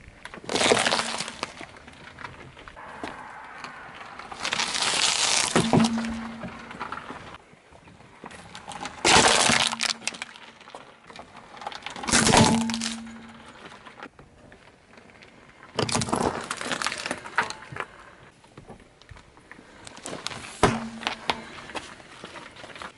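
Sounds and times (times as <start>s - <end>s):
objects crunching under car tyre: 0.0s - 22.9s.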